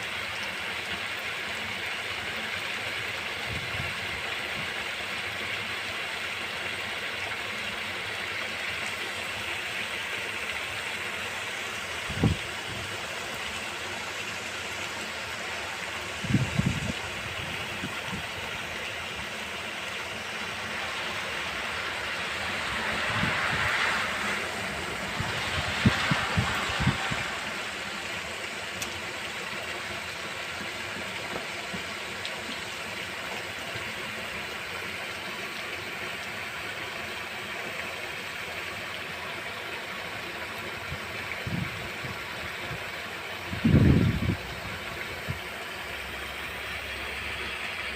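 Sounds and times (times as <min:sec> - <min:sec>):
rain hiss: 0:00.0 - 0:47.9.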